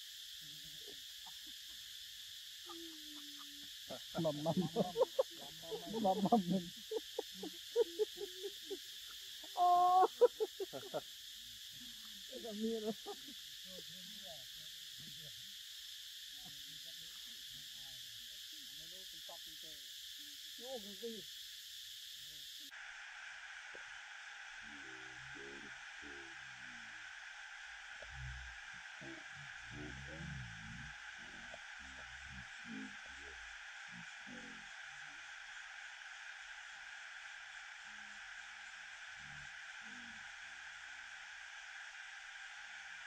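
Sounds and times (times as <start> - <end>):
steady high hiss: 0.0 - 43.0.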